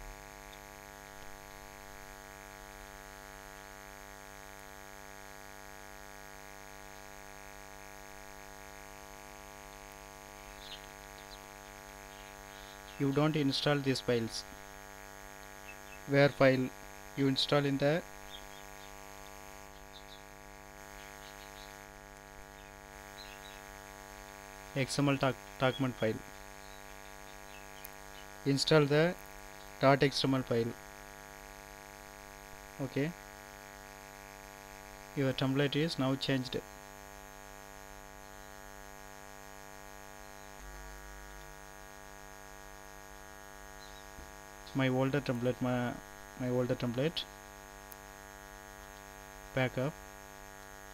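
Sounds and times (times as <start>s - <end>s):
electrical mains hum: 0.0s - 50.9s.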